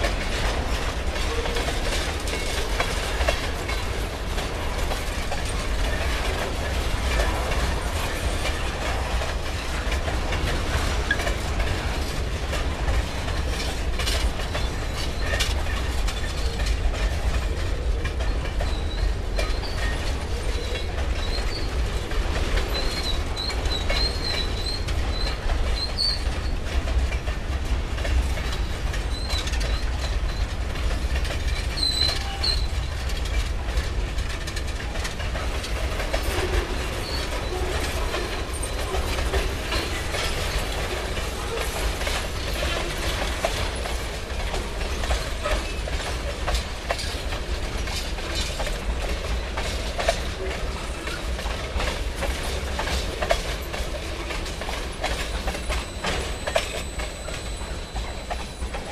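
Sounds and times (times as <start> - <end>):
freight cars clicking over rail joints: 0.0 - 58.9.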